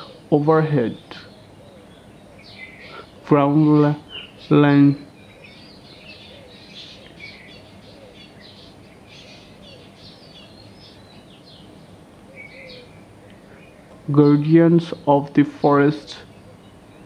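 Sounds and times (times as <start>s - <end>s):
faint background hiss: 0.0s - 17.0s
small birds chirping: 0.0s - 17.0s.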